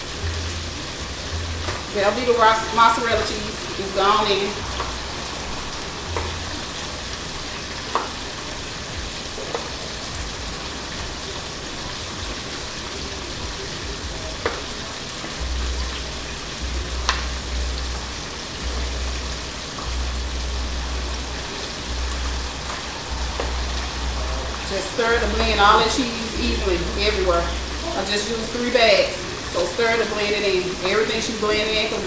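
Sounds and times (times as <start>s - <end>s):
low rumbling: 0.0s - 14.4s, 15.0s - 32.0s
chicken sizzling in hot oil: 0.0s - 32.0s.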